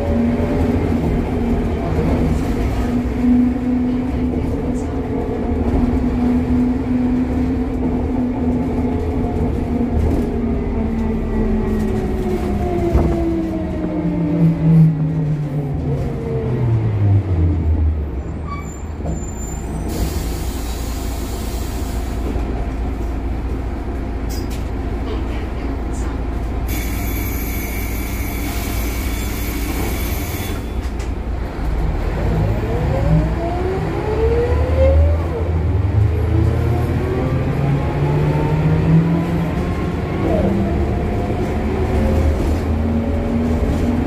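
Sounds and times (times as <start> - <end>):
bus diesel engine: 0.0 - 44.0.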